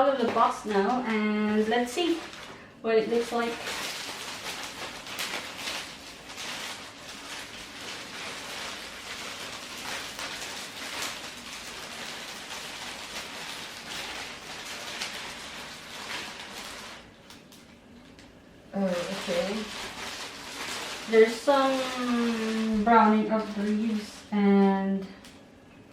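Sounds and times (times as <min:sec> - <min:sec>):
packaging wrap crinkling: 0:00.0 - 0:25.9.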